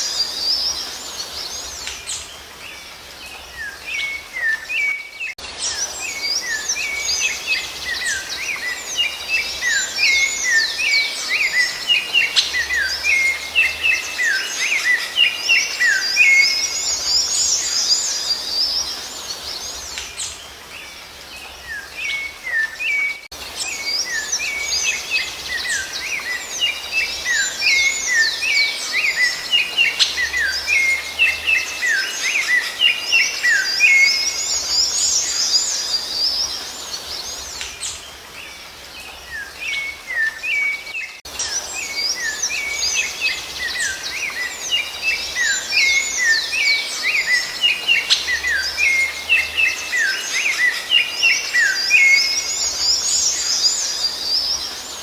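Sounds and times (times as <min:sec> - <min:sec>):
chorus of bird chirps: 0:00.0 - 0:55.0.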